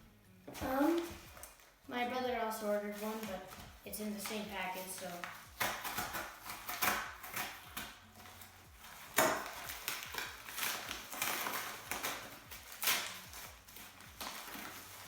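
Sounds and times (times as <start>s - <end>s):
package rustling and crinkling: 0.5s - 15.0s.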